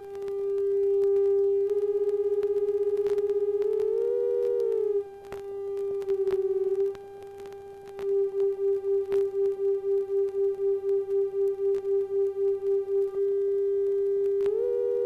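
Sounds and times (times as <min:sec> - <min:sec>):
faint clicks: 0:00.0 - 0:14.6.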